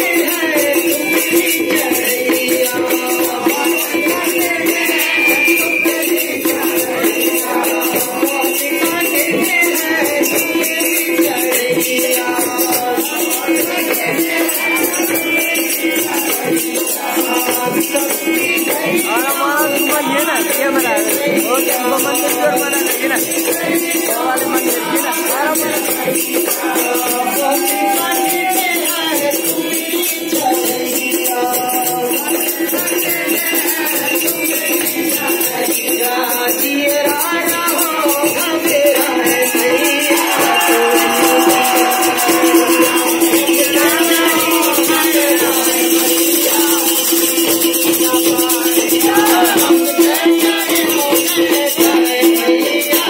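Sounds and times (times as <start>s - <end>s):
fast rattling percussion: 0.0s - 53.0s
voices singing: 0.0s - 53.0s.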